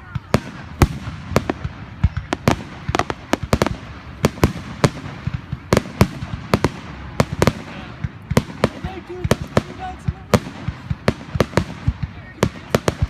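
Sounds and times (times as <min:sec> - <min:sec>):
background rumble: 0:00.0 - 0:13.0
fireworks bangs: 0:00.0 - 0:13.0.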